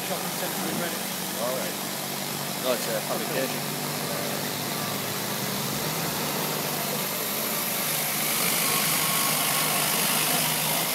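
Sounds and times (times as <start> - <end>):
pressure washer engine hum: 0.0 - 10.9.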